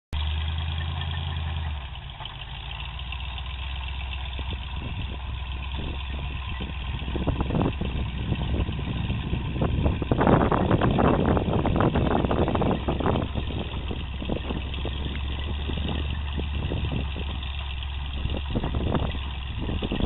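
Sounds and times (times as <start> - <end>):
truck engine idling: 0.1 - 20.0.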